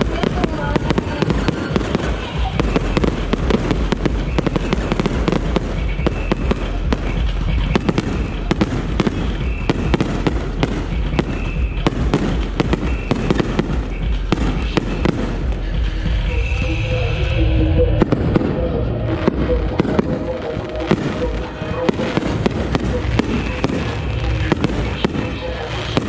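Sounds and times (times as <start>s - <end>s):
firework bangs and crackles: 0.0s - 16.6s, 17.8s - 26.0s.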